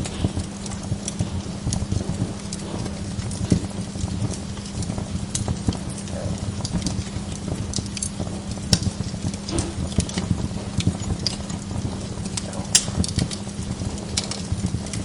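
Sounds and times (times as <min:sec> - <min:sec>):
low steady rumble: 0:00.0 - 0:15.0
sharp fire pops: 0:00.0 - 0:15.0
wood fire crackling: 0:00.0 - 0:15.0.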